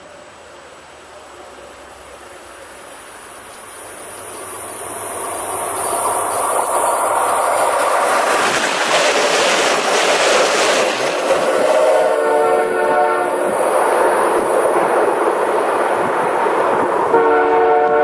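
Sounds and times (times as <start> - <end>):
train rushing past: 0.0 - 18.0
train wheels clattering over rails: 3.0 - 18.0.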